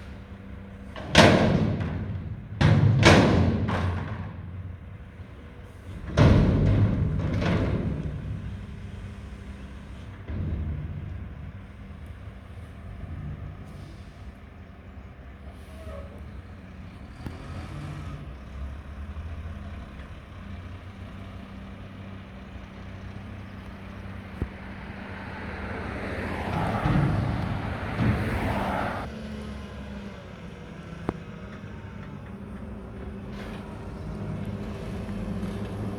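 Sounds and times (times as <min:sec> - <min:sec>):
diesel truck engine running: 0:00.0 - 0:35.9.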